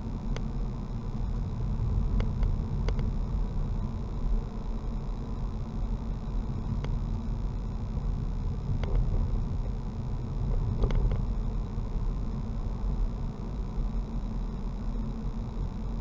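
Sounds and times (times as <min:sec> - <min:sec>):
car engine and road rumble: 0:00.0 - 0:13.9.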